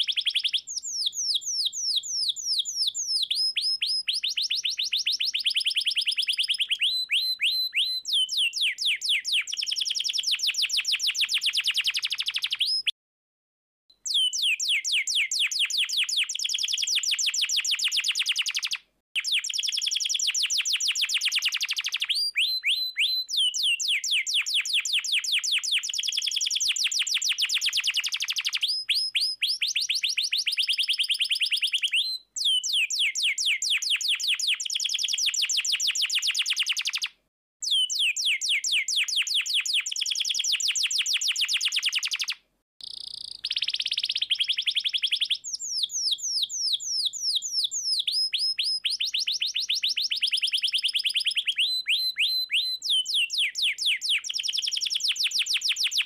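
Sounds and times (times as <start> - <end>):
canary singing trills: 0.0 - 13.0, 14.0 - 56.0.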